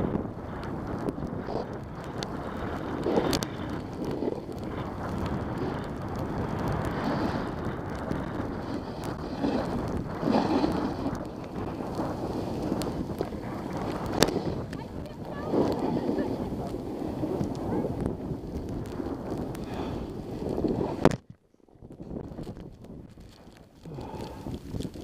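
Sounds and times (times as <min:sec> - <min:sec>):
skis scraping over packed snow: 0:00.0 - 0:25.0
wind buffeting microphone: 0:00.0 - 0:25.0.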